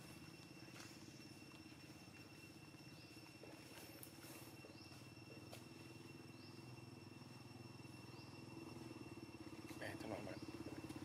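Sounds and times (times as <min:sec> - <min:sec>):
high insect drone: 0:00.0 - 0:11.0
low fluttering hum: 0:00.0 - 0:11.0.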